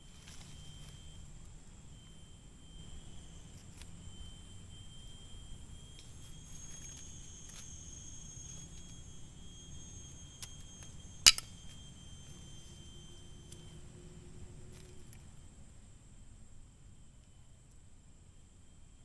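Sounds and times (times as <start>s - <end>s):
insect chorus: 0.0s - 19.0s.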